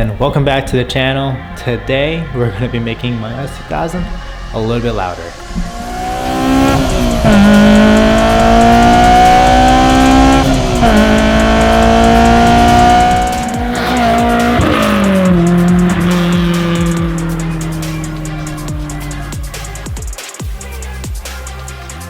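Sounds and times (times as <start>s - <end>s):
background music: 0.0s - 22.0s
car engine accelerating through gears: 2.1s - 20.2s.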